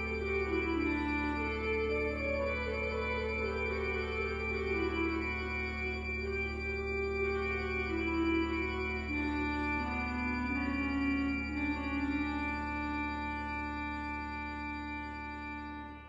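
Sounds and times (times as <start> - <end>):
slow organ music: 0.0 - 16.0.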